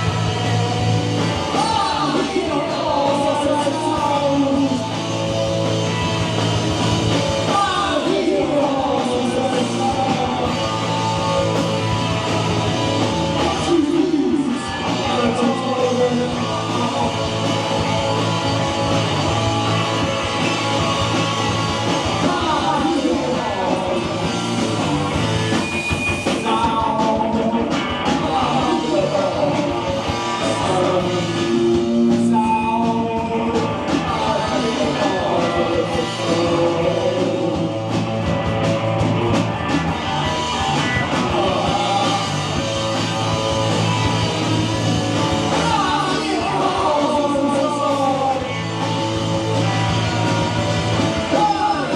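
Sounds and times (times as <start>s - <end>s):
person singing: 0.0s - 25.2s, 26.2s - 38.1s, 40.9s - 51.9s
amplified guitars: 0.0s - 51.9s
drums: 0.0s - 51.9s.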